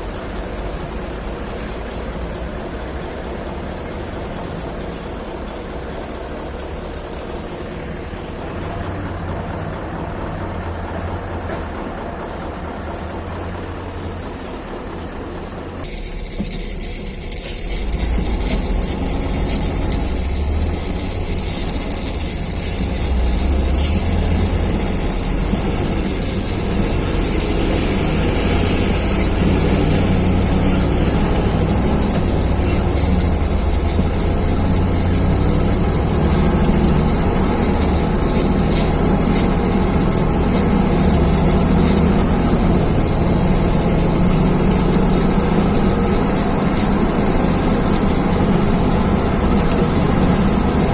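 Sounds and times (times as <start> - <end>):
heavy vehicle engine rumbling: 0.0 - 50.9.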